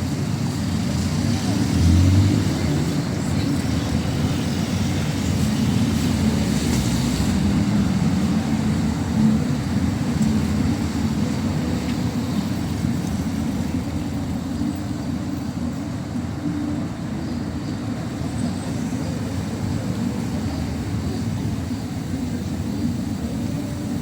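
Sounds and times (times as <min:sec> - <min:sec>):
low rumble of traffic engines: 0:00.0 - 0:24.0.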